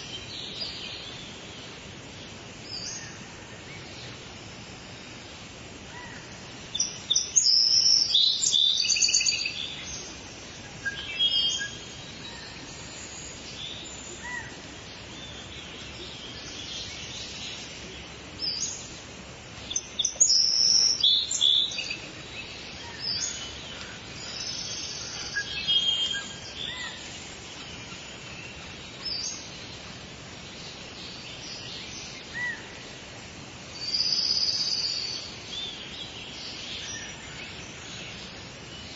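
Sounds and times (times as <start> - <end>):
outdoor background hiss: 0.0 - 38.9
songbirds chirping and trilling: 0.0 - 38.9.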